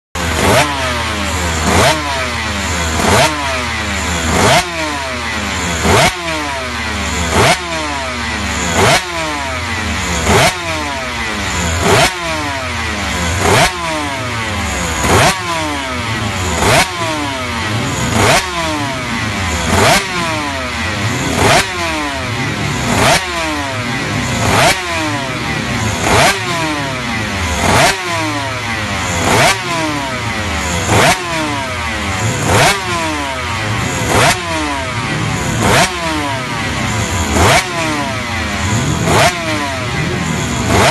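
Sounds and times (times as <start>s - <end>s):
racing motorcycle engine revving: 0.2s - 40.9s.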